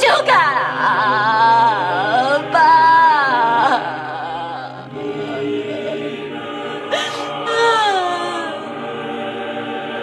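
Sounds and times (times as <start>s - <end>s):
choral background music: 0.0s - 10.0s.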